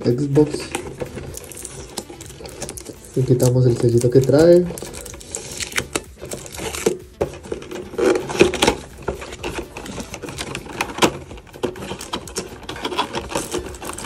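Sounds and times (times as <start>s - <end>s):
plastic seal rustling: 0.1s - 14.0s
cardboard box being opened: 0.4s - 14.0s.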